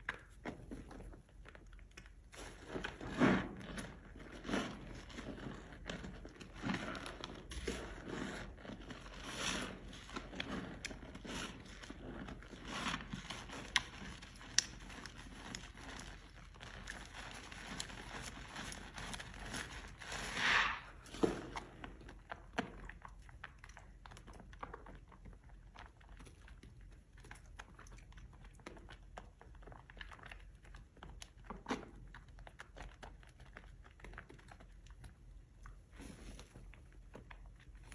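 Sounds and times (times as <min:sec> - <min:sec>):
wet soap being squished: 0:00.0 - 0:37.9.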